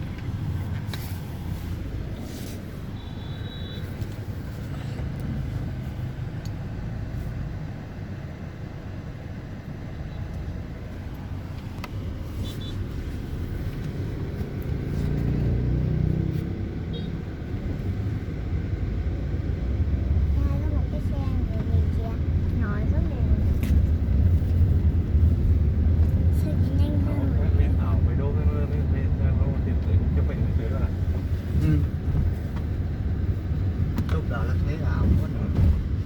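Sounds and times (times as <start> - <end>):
vehicle rumble from inside: 0.0 - 36.0.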